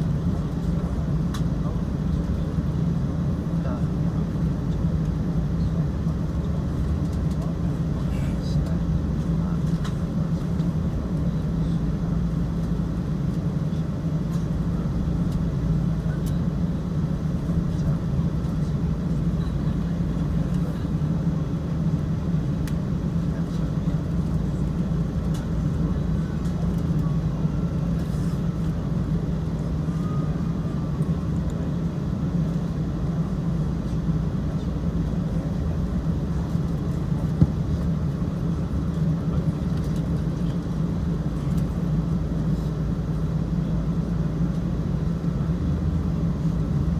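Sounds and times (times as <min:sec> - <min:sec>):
airliner engines and cabin air drone: 0:00.0 - 0:46.9.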